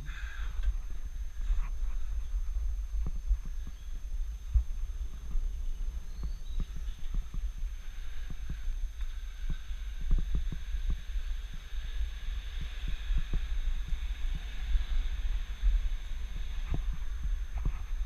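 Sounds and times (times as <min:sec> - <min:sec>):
faint hiss: 0:00.0 - 0:18.0
wind buffeting microphone: 0:00.0 - 0:18.0.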